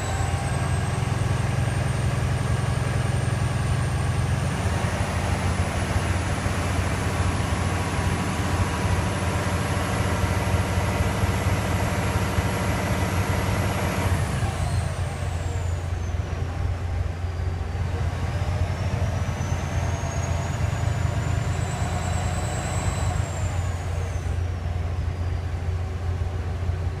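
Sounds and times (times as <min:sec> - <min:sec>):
turbocharger whistle: 0:00.0 - 0:26.0
diesel engine low rumble: 0:00.0 - 0:27.0.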